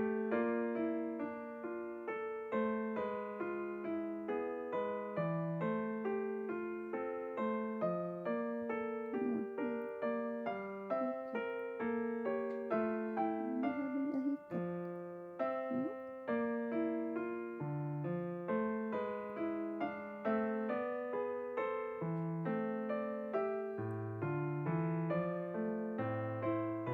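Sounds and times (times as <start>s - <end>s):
background piano music: 0.0s - 26.9s.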